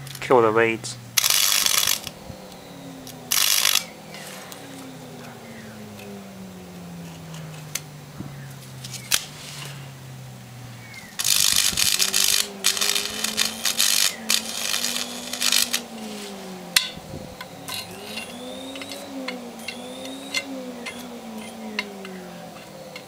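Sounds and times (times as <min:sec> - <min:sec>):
sharp electric snaps: 0:00.0 - 0:06.3, 0:07.0 - 0:23.0
electric arc crackling and buzzing: 0:00.0 - 0:23.0
vacuum cleaner humming: 0:00.0 - 0:23.0.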